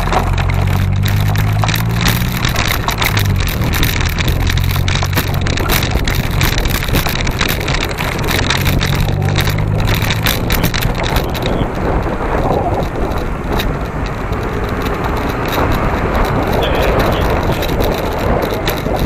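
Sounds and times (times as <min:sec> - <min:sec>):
tyres on loose gravel: 0:00.0 - 0:19.0.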